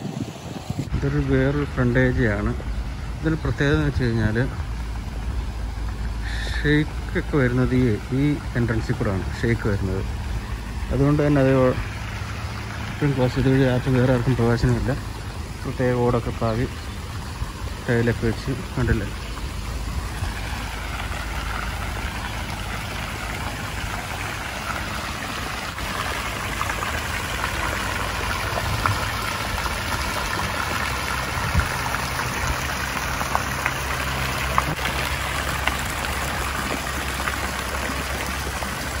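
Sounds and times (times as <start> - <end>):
fountain jets splashing into pool: 0.0 - 39.0.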